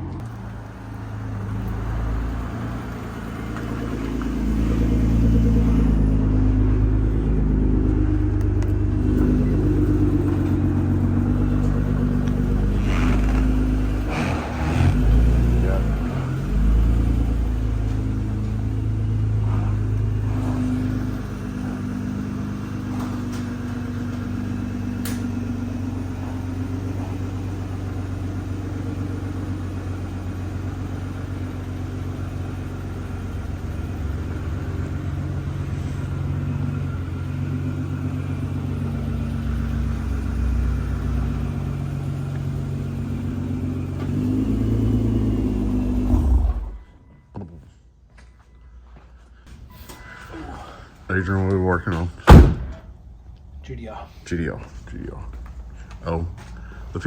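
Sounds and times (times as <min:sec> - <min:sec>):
car engine running: 0:00.0 - 0:46.9.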